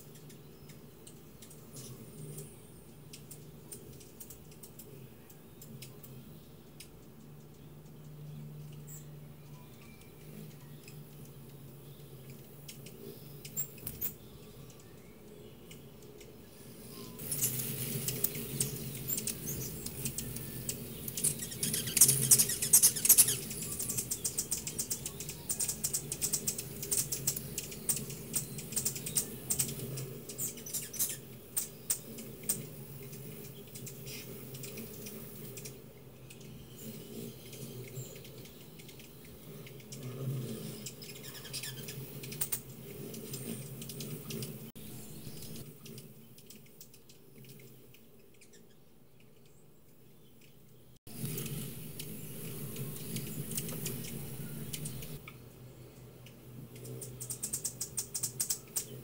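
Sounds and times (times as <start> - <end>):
hummingbird chip notes and chatter: 0.0 - 59.0.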